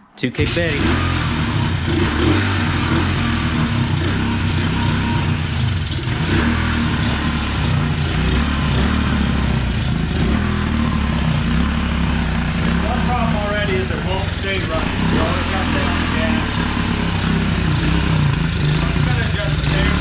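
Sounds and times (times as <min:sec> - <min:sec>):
motorbike engine idling high: 0:00.4 - 0:20.0.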